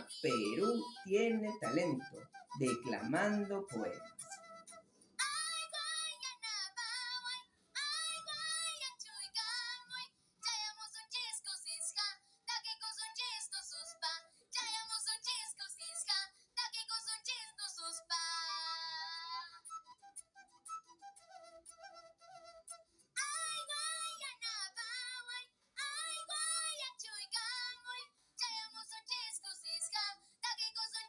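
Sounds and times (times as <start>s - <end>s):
boy singing a carol: 0.0s - 4.0s, 5.2s - 19.6s, 23.2s - 31.0s.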